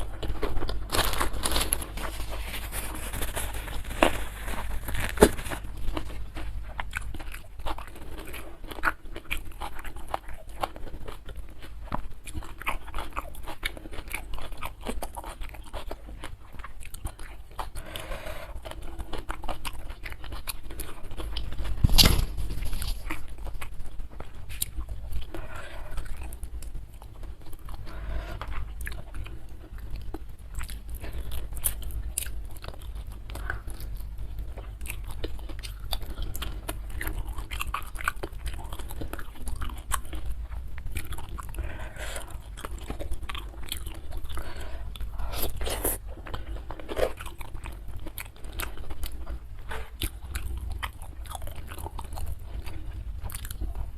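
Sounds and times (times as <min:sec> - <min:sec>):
chewing crunchy food: 0:00.0 - 0:53.9.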